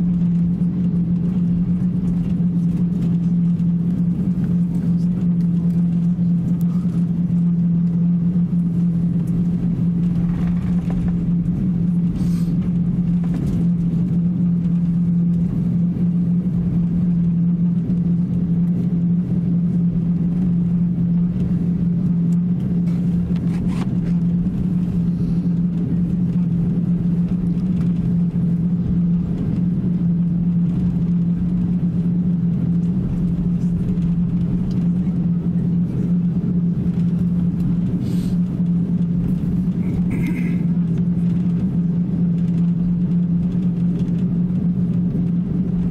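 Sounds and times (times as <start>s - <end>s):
aircraft cabin engine drone: 0.0s - 45.9s.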